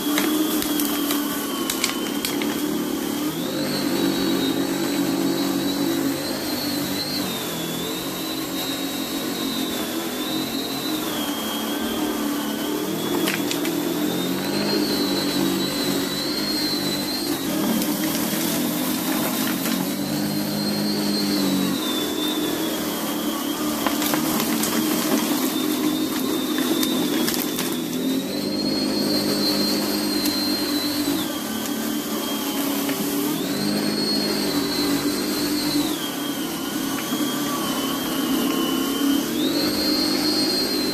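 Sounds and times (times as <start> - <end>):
lawn scarifier motor whine: 0.0 - 40.9.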